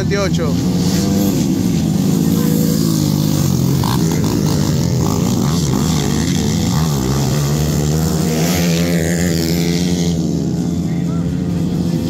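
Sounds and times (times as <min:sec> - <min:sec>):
dirt bikes revving: 0:00.0 - 0:12.0
low engine drone: 0:00.0 - 0:12.0.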